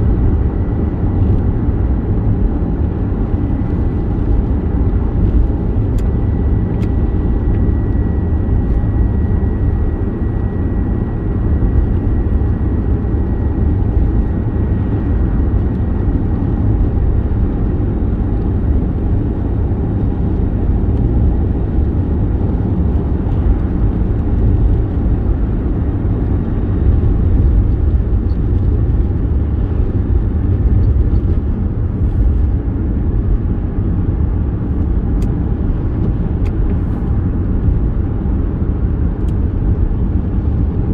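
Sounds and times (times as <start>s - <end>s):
car engine driving: 0.0s - 40.9s
road noise: 0.0s - 40.9s.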